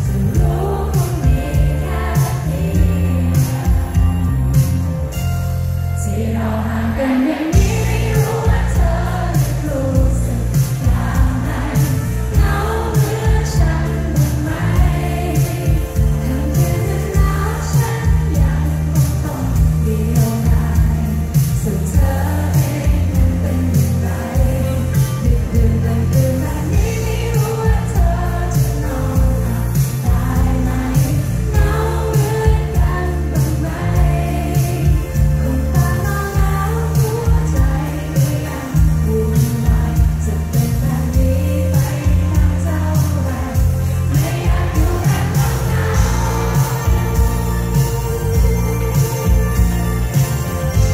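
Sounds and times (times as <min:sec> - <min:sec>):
woman singing: 0:00.0 - 0:04.8, 0:06.0 - 0:49.9
bass and drums: 0:00.0 - 0:50.9
live pop band playing: 0:00.0 - 0:50.9.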